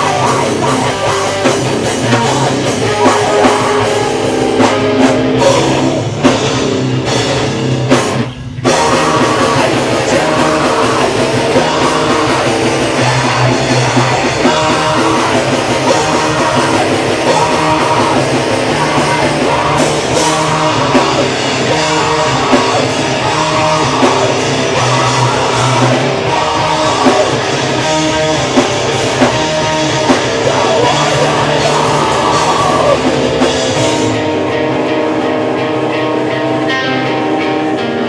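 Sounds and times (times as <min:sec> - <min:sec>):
pounding drums: 0:00.0 - 0:36.6
distorted electric guitars: 0:00.0 - 0:38.0
rock vocals: 0:00.0 - 0:38.0.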